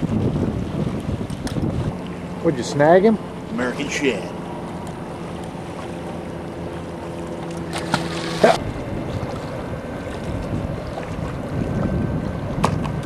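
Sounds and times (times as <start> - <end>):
wind buffeting microphone: 0.0 - 3.6, 4.4 - 13.0
steady low hum: 0.0 - 13.0
water lapping around boat: 0.0 - 13.0.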